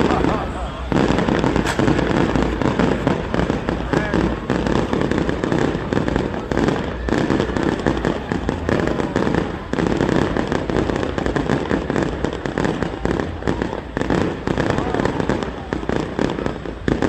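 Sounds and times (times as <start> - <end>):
fireworks bangs and crackles: 0.0 - 17.0
people's voices: 0.0 - 17.0.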